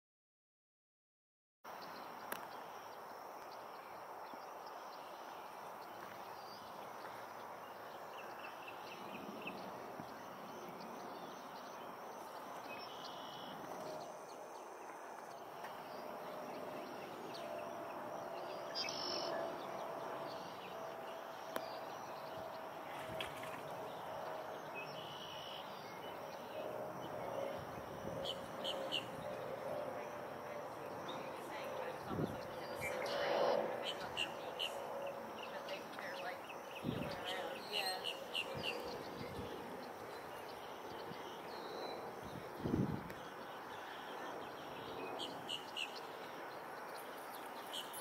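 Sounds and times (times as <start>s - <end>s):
outdoor background hiss: 1.7s - 48.0s.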